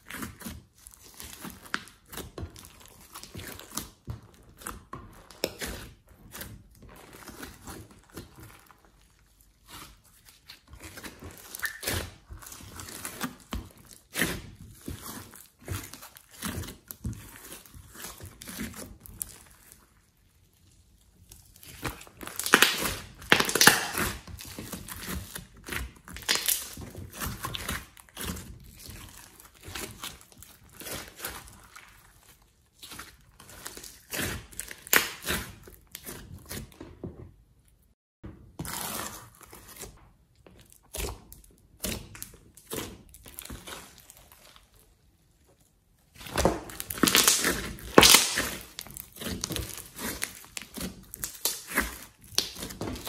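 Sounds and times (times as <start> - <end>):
slime squelching and crackling: 0.0 - 37.0, 38.5 - 53.0.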